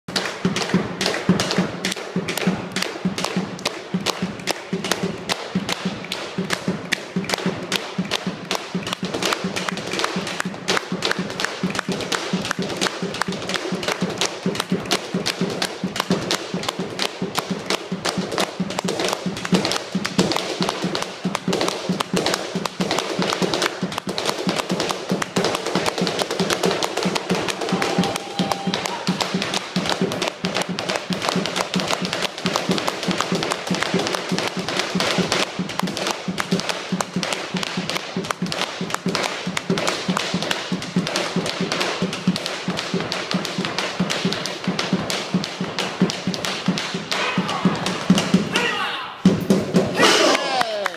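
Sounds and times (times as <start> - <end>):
drum struck with sticks: 0.4 - 50.6
boots stamping on wooden board: 6.7 - 50.2.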